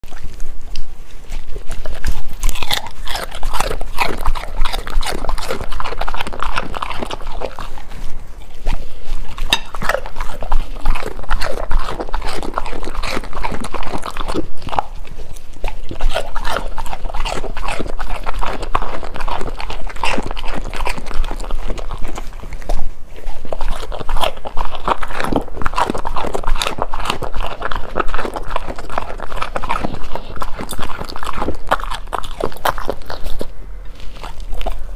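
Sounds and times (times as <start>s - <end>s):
dog crunching food: 0.0s - 34.9s.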